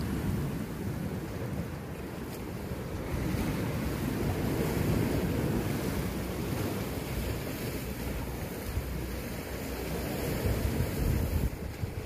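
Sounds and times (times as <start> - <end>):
sea waves breaking on rocks: 0.0 - 12.0
wind buffeting microphone: 0.0 - 12.0.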